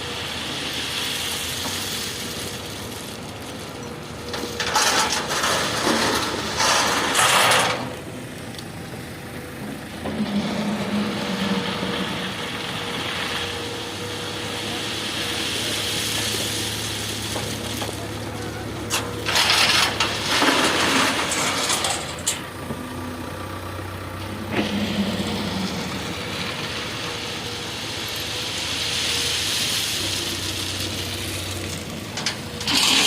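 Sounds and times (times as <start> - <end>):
excavator diesel engine running: 0.0 - 33.0
rocks grinding while loaded: 0.4 - 8.6, 9.6 - 33.0.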